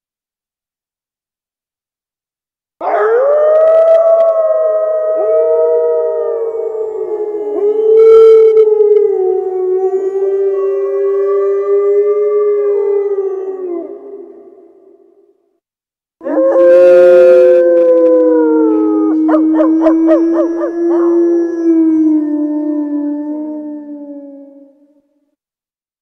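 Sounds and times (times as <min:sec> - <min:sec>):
wolf-like howls: 0:02.8 - 0:15.0, 0:16.2 - 0:25.0.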